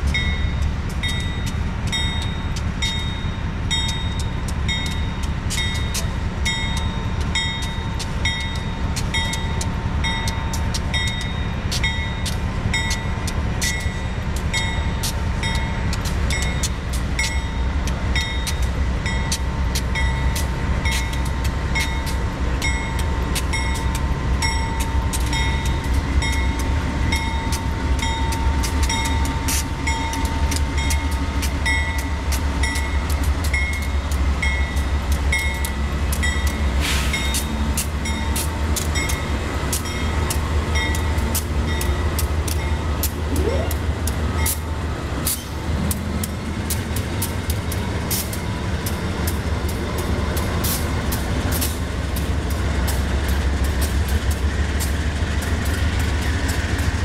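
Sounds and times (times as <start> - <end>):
locomotives passing with low rumble: 0.0 - 57.0
train wheels clicking over rail joints: 0.0 - 57.0.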